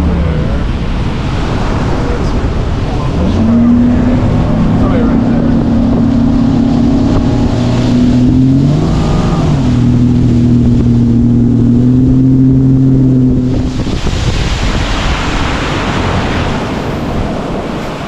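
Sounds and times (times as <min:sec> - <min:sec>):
outboard motor running: 0:00.0 - 0:18.0
wind and water rushing: 0:00.0 - 0:18.0.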